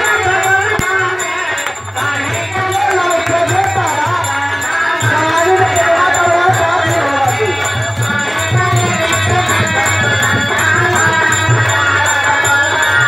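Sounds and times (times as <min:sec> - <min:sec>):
harmonium melody: 0:00.0 - 0:13.0
jingling percussion: 0:00.0 - 0:13.0.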